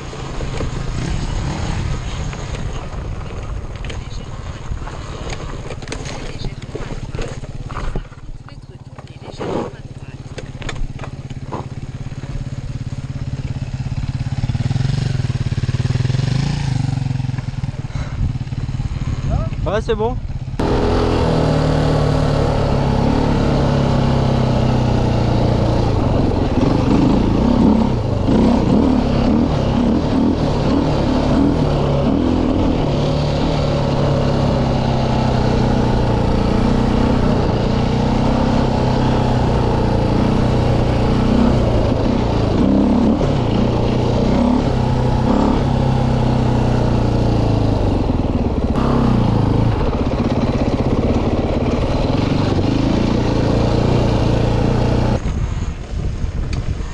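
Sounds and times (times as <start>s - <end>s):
dirt bike engine revving: 0.0s - 2.6s, 9.3s - 19.4s, 20.4s - 55.2s.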